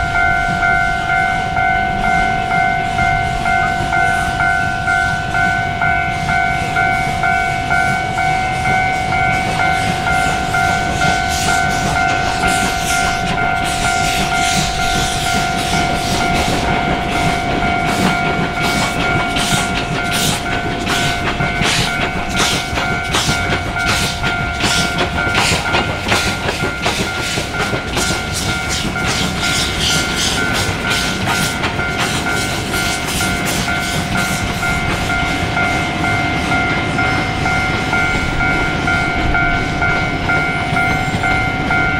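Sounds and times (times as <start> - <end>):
steady high-pitched tone: 0.0 - 41.9
steam locomotive chuffing: 0.0 - 41.9.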